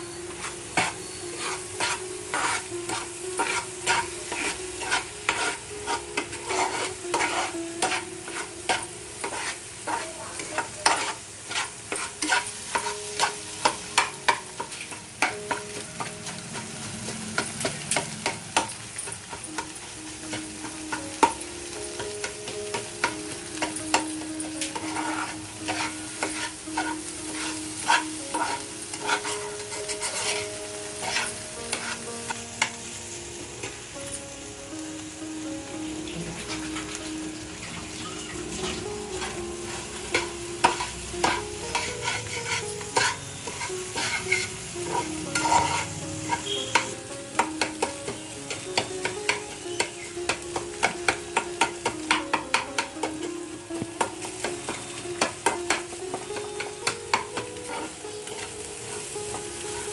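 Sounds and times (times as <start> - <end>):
spatula scraping frying pan: 0.0 - 32.9, 35.8 - 59.9
frying sizzle: 0.0 - 59.9.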